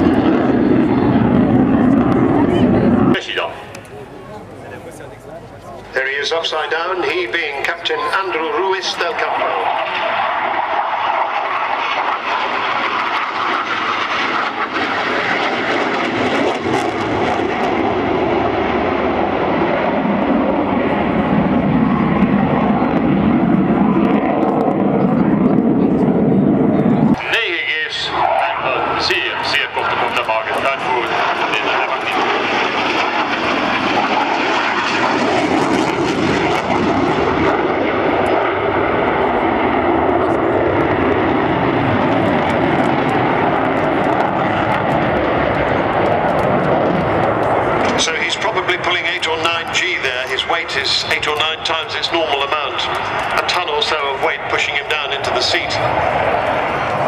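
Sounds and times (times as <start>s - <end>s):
fighter jet flying past: 0.0s - 3.8s, 5.8s - 57.0s.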